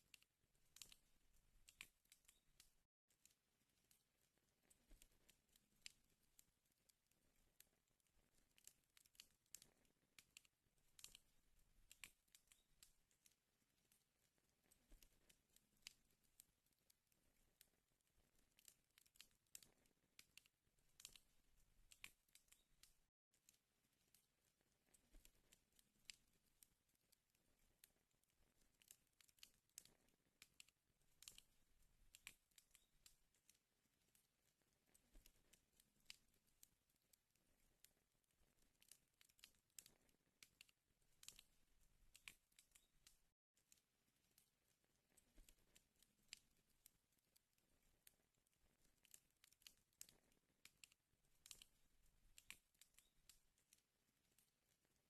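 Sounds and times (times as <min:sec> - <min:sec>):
wood fire crackling: 0:00.0 - 0:02.8, 0:03.7 - 0:43.3, 0:47.8 - 0:54.8.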